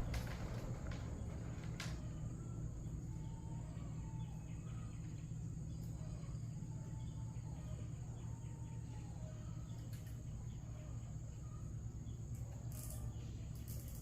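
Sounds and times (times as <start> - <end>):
high insect drone: 0.0 - 14.0
low steady rumble: 0.0 - 14.0.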